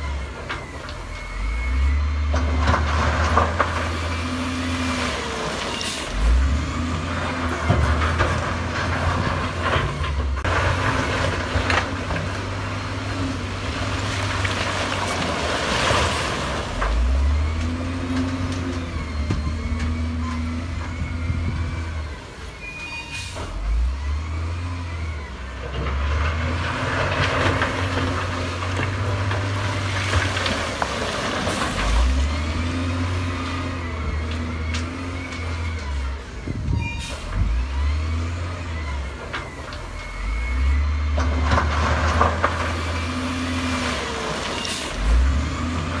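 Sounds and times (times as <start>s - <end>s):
diesel machinery engine surging: 0.0s - 46.0s.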